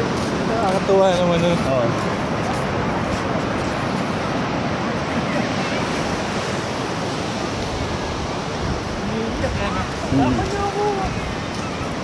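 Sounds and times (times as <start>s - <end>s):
ocean surf breaking on beach: 0.0s - 12.0s
wind on microphone: 0.0s - 12.0s.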